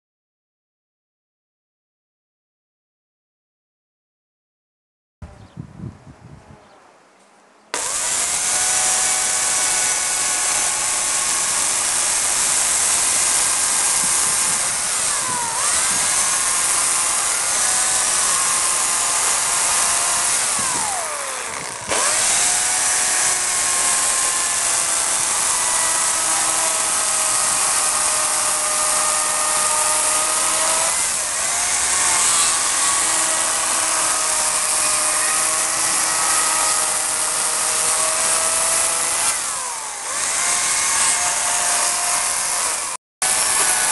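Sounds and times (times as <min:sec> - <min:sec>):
electric chainsaw cutting wood: 0:07.7 - 0:43.9.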